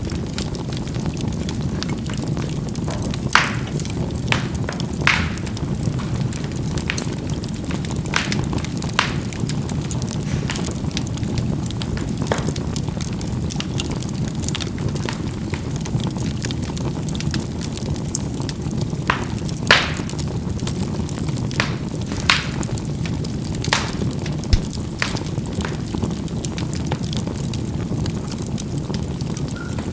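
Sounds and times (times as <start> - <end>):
charcoal crackling and popping: 0.0 - 29.9
low rumble of fire: 0.0 - 29.9.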